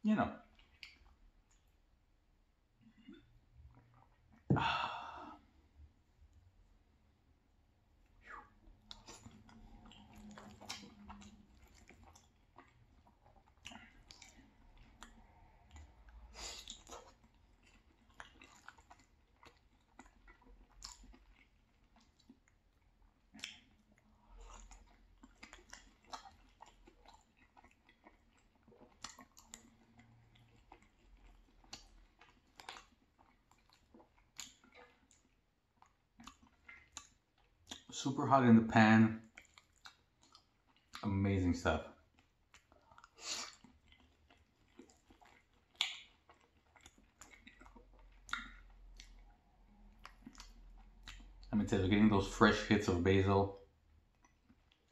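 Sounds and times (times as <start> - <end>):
person chewing pasta: 0.4 - 6.8, 7.5 - 38.0, 39.2 - 41.1, 41.9 - 51.7, 53.6 - 54.9.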